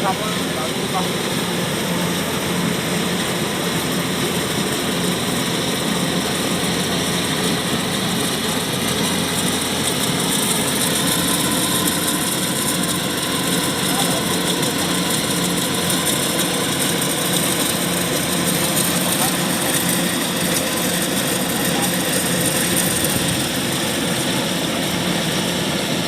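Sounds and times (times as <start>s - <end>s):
combine harvester droning: 0.0s - 26.0s.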